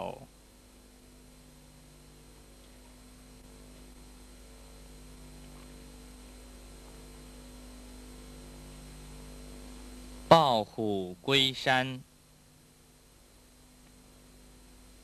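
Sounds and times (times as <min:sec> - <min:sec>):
electrical hum: 0:00.0 - 0:15.0
faint hiss: 0:00.0 - 0:15.0.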